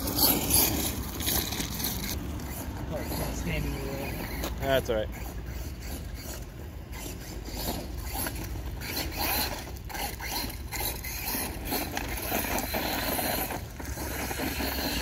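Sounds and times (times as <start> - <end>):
rc truck motor running: 0.0 - 15.0
tires scraping gravel: 0.0 - 15.0.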